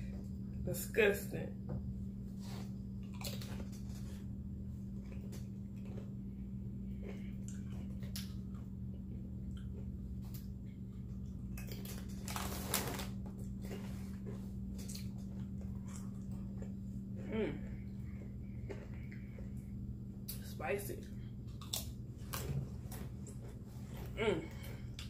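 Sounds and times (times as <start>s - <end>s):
steady low hum: 0.0s - 25.0s
person chewing food: 2.4s - 12.4s, 13.2s - 20.4s, 21.2s - 25.0s.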